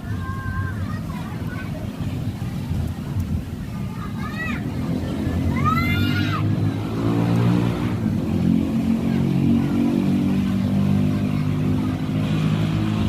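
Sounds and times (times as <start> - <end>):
vehicle engine droning: 1.8 - 13.0.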